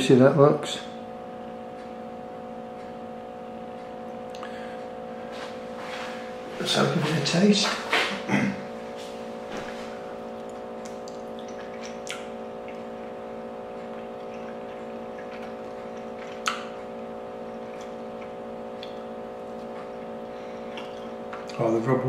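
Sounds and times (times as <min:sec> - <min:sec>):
steady hum of held tones: 0:00.0 - 0:22.0.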